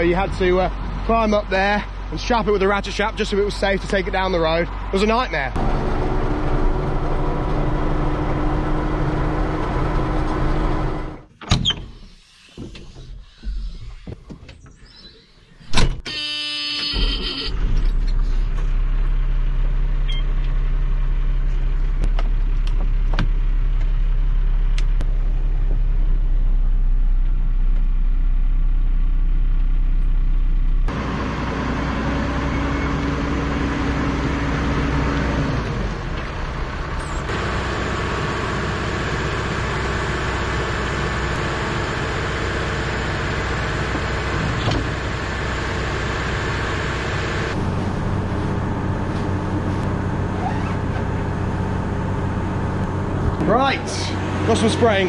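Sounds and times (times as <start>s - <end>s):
tractor engine running: 0.0s - 11.4s, 16.7s - 55.0s.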